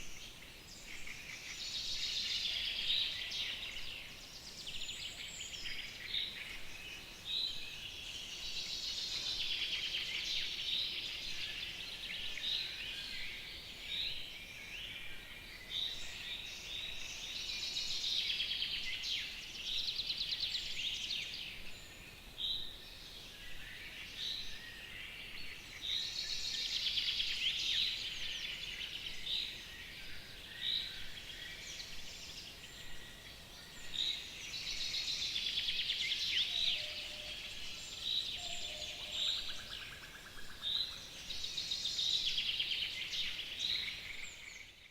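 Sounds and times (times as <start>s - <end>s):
faint background hiss: 0.0s - 44.9s
songbirds singing: 0.0s - 44.9s.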